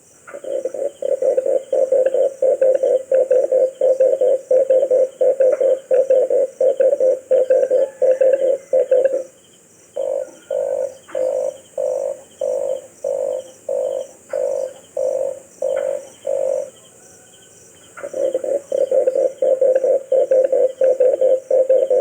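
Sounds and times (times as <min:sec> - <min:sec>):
dove cooing: 0:00.0 - 0:09.4, 0:10.0 - 0:22.0.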